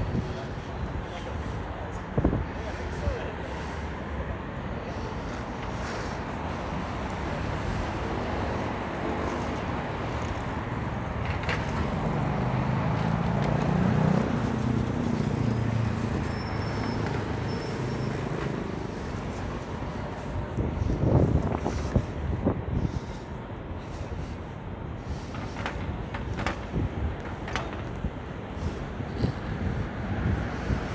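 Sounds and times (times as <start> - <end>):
city street traffic: 0.0 - 30.9.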